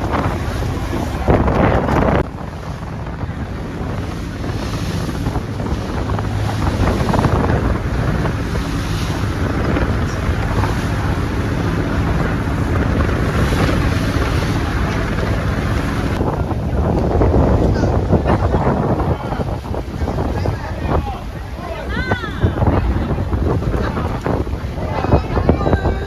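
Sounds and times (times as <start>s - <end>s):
boat engine droning: 0.0s - 26.0s
rushing water: 0.0s - 26.0s
wind buffeting microphone: 0.0s - 26.0s.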